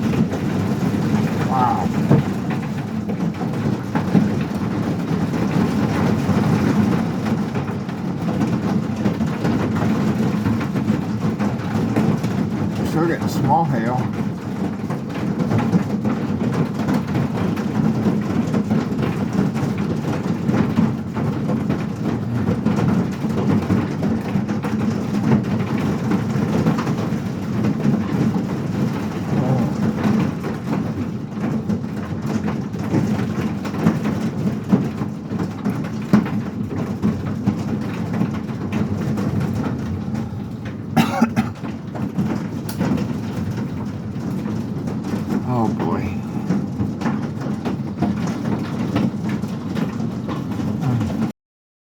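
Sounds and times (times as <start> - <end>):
hail and rain pelting: 0.0 - 51.3.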